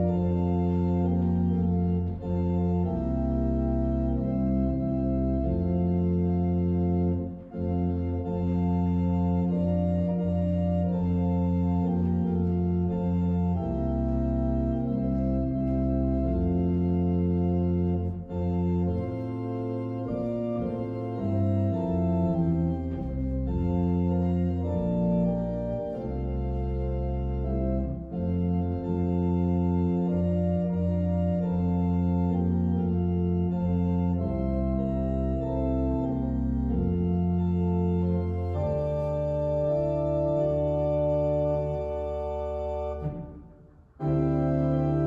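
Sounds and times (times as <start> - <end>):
organ playing sustained chords: 0.0 - 45.0.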